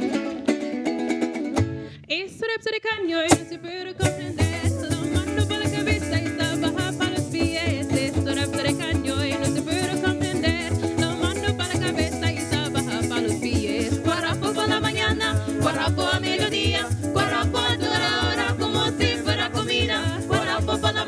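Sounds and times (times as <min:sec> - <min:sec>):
plucked and strummed strings: 0:00.0 - 0:02.1, 0:03.3 - 0:21.0
maracas shaking: 0:04.0 - 0:21.0.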